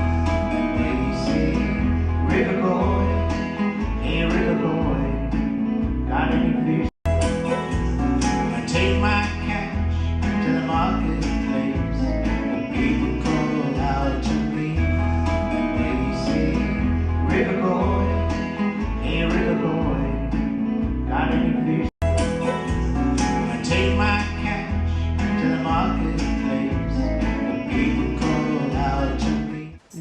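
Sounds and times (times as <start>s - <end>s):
upbeat country song: 0.0s - 30.0s.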